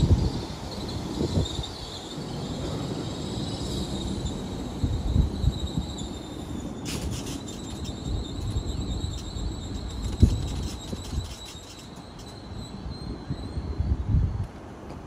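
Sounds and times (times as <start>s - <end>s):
train high-pitched whine: 0.0s - 14.5s
train low rumble: 0.0s - 15.0s.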